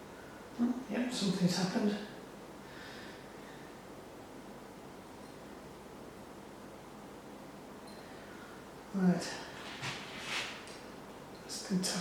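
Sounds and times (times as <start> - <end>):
room background hiss: 0.0 - 12.0.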